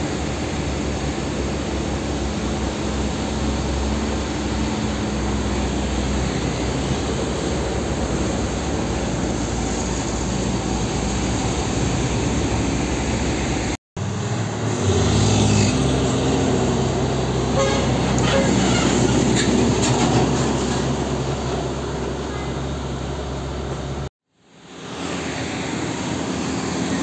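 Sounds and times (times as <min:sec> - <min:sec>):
big tyres rolling on asphalt: 0:00.0 - 0:27.0
heavy trucks passing: 0:00.0 - 0:27.0.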